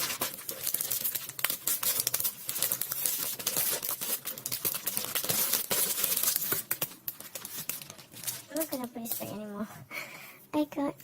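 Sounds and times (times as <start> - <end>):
plastic wrapping crinkling: 0.0 - 9.6.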